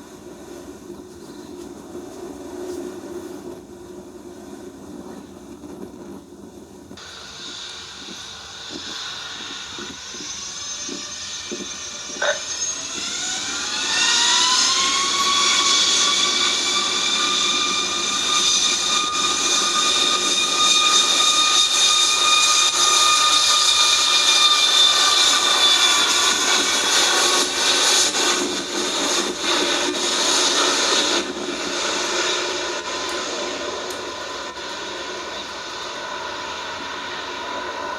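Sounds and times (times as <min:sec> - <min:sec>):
jet engines spooling up: 0:06.1 - 0:37.9.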